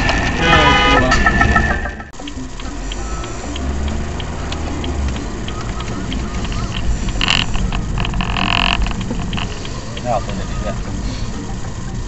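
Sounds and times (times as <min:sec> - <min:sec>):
loud bursts: 0:00.0 - 0:09.7
car engine and road noise: 0:00.0 - 0:12.0
faint regular ticking: 0:00.5 - 0:12.0.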